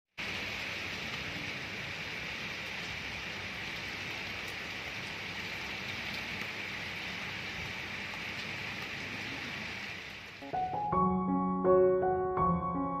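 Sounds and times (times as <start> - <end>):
steady rain falling: 0.2 - 13.0.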